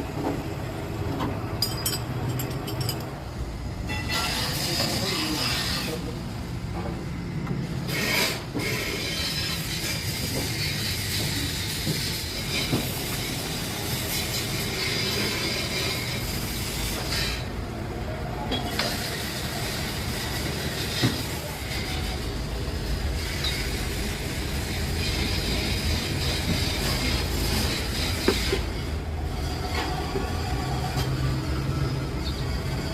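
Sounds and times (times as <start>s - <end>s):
mechanical rumble with metallic squealing: 0.7s - 17.7s, 18.5s - 32.9s.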